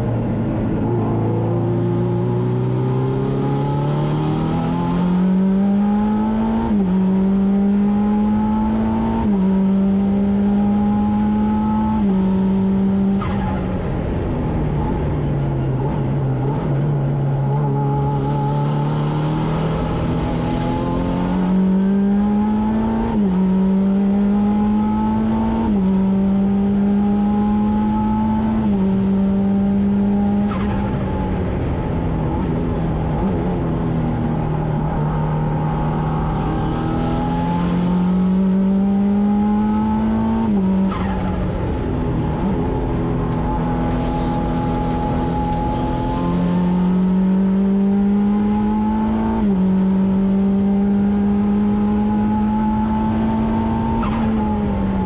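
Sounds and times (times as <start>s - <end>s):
race car engine at full throttle: 0.0s - 55.0s.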